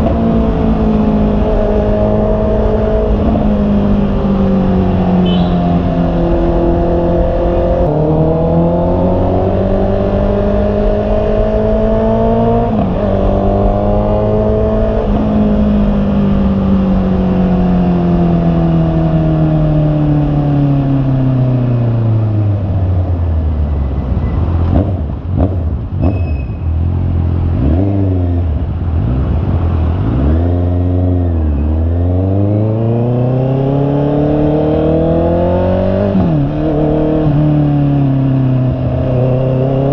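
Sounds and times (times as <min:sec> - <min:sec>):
motorcycle engine revving: 0:00.0 - 0:22.6, 0:24.5 - 0:39.9.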